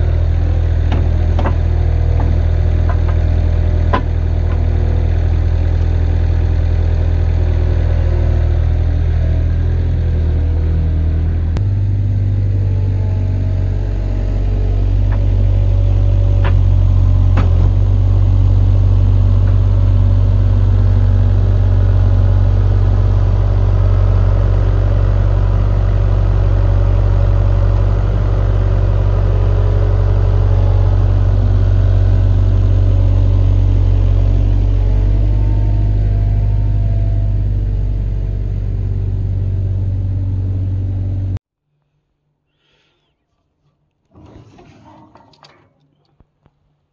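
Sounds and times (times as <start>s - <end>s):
diesel engine running: 0.0s - 41.4s.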